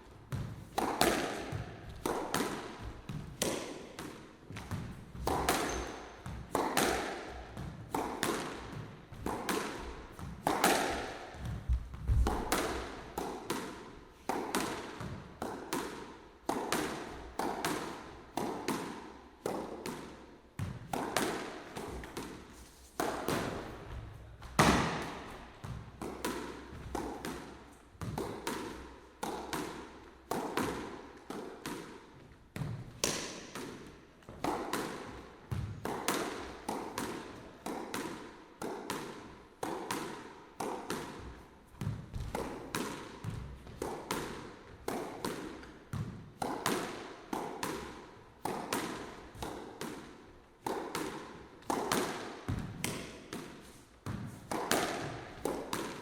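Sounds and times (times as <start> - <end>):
squash ball smacks: 0.3 - 56.0.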